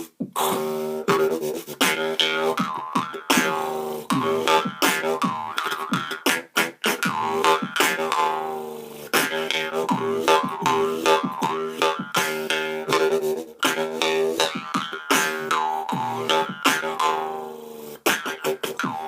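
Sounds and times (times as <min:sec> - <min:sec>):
beatbox mouth percussion: 0:00.0 - 0:19.0.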